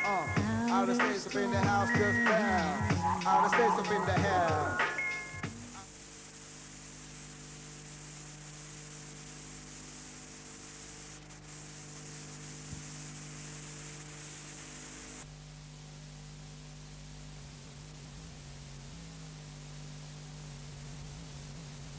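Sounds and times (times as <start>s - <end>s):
low electrical hum: 0.0s - 21.9s
tape hiss: 0.0s - 21.9s.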